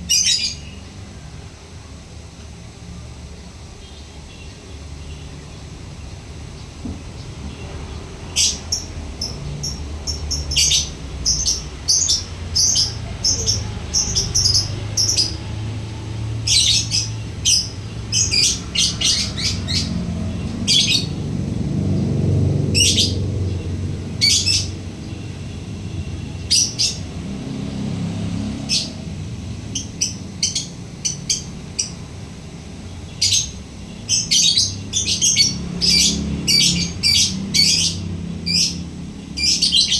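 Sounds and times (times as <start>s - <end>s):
lovebird chirping: 0.0s - 0.9s, 6.6s - 21.6s, 22.7s - 27.6s, 28.4s - 39.9s.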